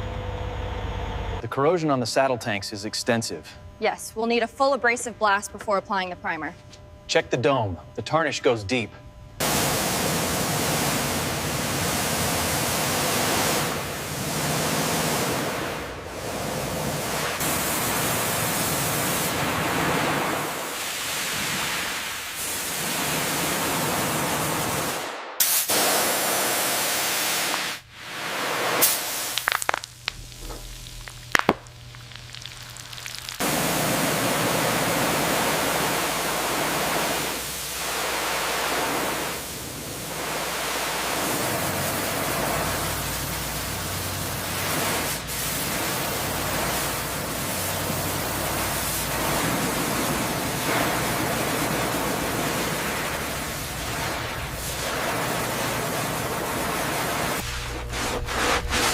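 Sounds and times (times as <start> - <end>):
loud steady hiss: 9.4 - 58.3.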